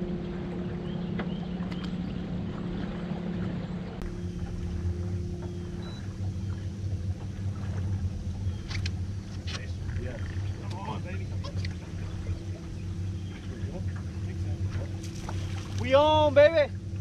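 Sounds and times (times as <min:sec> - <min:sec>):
electric trolling motor humming: 0:00.0 - 0:17.0
water noise: 0:00.0 - 0:17.0.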